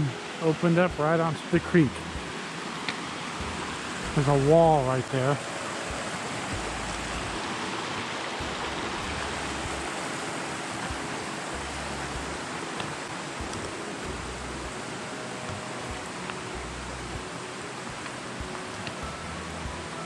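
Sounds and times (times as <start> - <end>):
creek flowing over rocks: 0.0 - 20.0.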